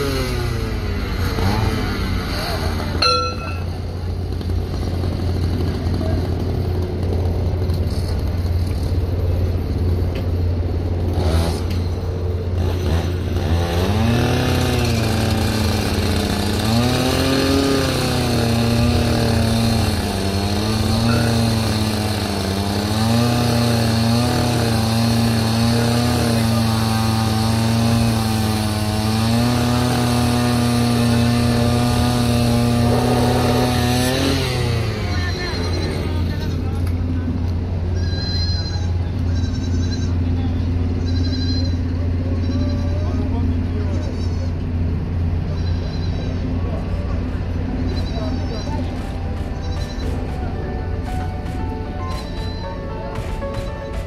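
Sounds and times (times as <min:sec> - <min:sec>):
engine low drone: 0:00.0 - 0:54.0.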